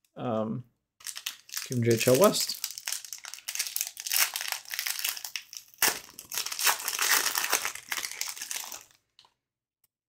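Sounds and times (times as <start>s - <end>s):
wrapper crinkling and tearing: 1.0s - 9.3s.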